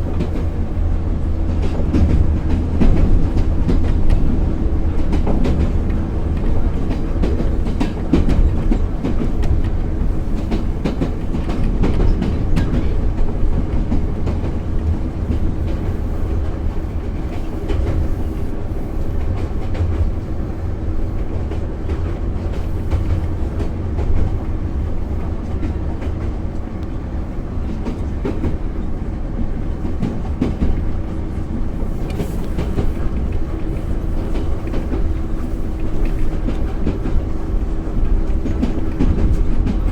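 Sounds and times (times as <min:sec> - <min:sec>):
train rumble and hum: 0:00.0 - 0:39.9
train wheels knocking on rail joints: 0:00.0 - 0:39.9.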